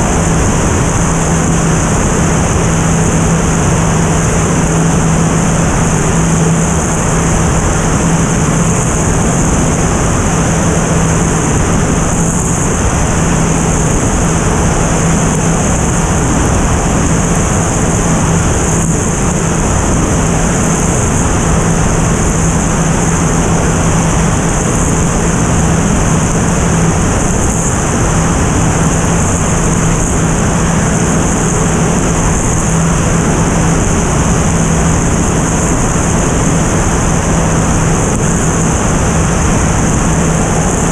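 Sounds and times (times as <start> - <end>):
propeller airplane engine drone: 0.0 - 40.9
wind rushing over airframe: 0.0 - 40.9.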